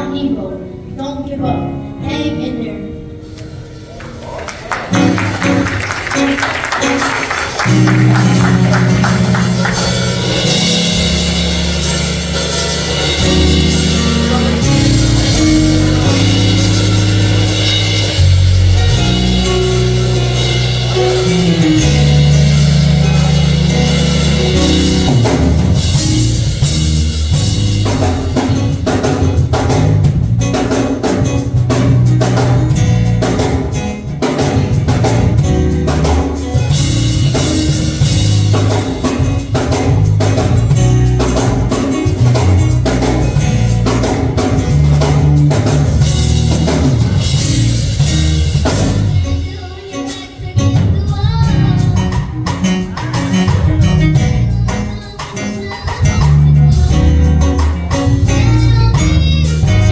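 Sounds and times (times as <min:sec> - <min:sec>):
bass: 0:00.0 - 0:59.9
church band playing gospel music: 0:00.0 - 0:59.9
drum kit: 0:03.2 - 0:59.9.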